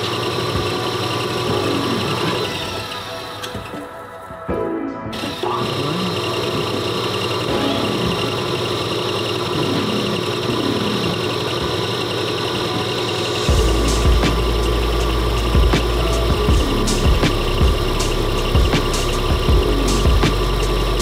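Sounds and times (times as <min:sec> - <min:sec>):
alternator mechanical whine: 0:00.0 - 0:21.0.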